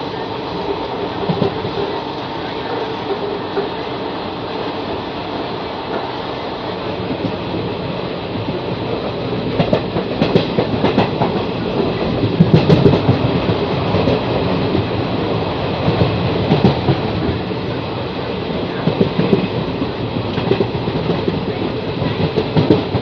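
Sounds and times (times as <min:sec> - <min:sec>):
train wheels clickety-clack: 0:00.0 - 0:03.9, 0:05.8 - 0:06.2, 0:06.9 - 0:23.0
train coaches rumbling: 0:00.0 - 0:23.0.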